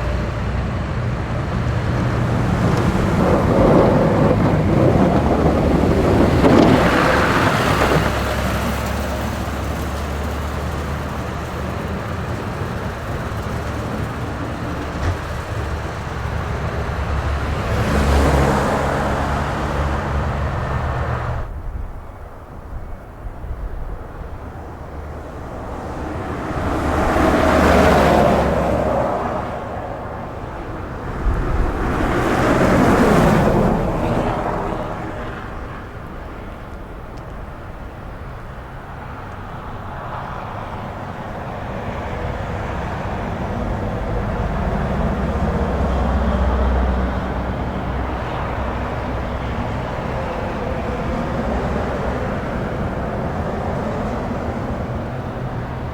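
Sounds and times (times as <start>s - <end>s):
low engine sound: 0.0s - 55.9s
vehicles passing by: 0.0s - 55.9s.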